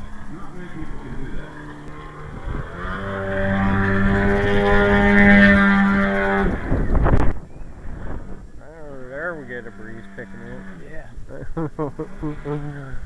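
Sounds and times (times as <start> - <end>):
propeller airplane engine droning: 0.0 - 13.0.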